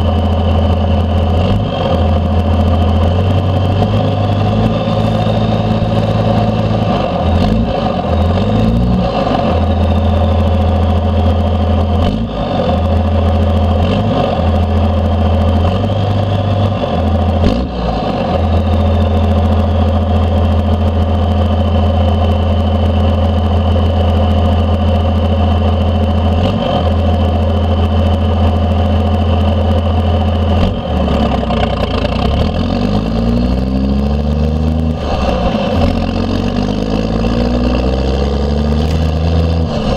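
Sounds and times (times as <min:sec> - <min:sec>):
diesel engine driving under load: 0:00.0 - 0:39.9.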